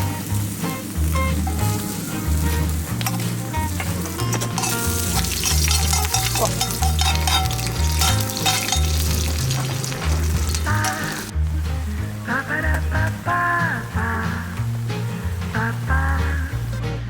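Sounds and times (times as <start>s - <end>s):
background music with bass line: 0.0s - 17.0s
food frying and sizzling: 0.0s - 17.0s.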